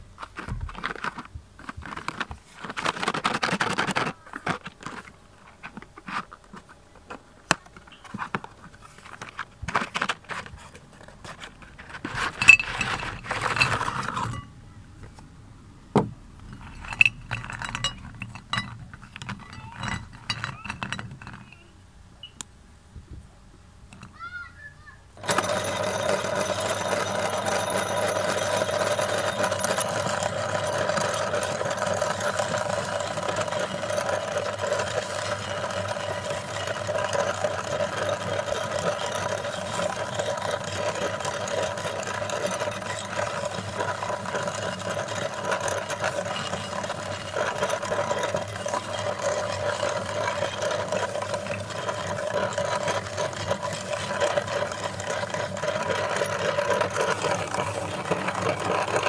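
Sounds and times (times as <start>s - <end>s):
meat grinder grinding cookies: 0.0s - 14.5s, 16.4s - 21.7s, 25.2s - 59.0s.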